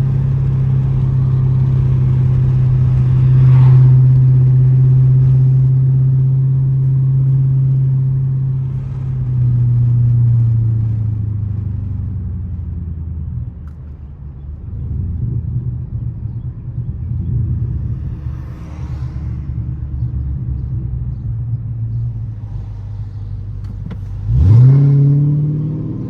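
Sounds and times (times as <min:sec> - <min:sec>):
car exhaust droning: 0:00.0 - 0:26.0.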